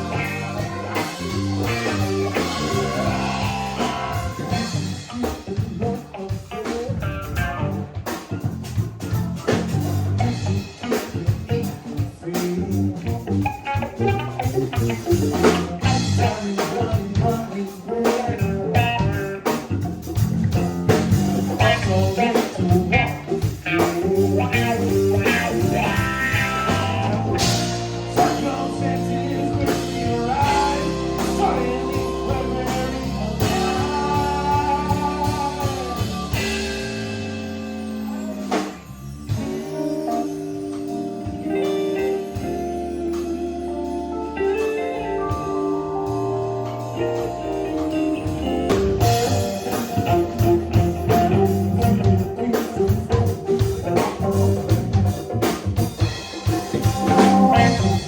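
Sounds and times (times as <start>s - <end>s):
band playing blues-rock: 0.0s - 58.0s
electric guitar: 0.0s - 58.0s.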